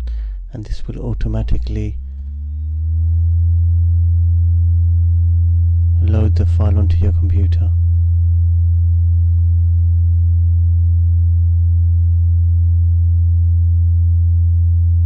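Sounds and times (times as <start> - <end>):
fainter higher hum tones: 0.0 - 15.0
low electrical hum: 0.0 - 15.0.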